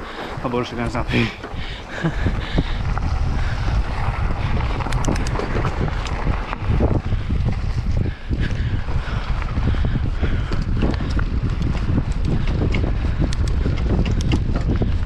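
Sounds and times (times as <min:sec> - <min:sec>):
bike clicks and rattles: 0:00.0 - 0:15.0
tyres crunching on gravel: 0:00.0 - 0:15.0
wind buffeting microphone: 0:00.0 - 0:15.0.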